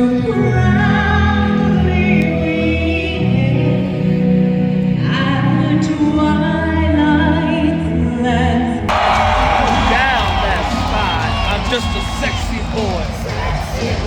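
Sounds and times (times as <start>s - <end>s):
singing voices: 0.0s - 14.0s.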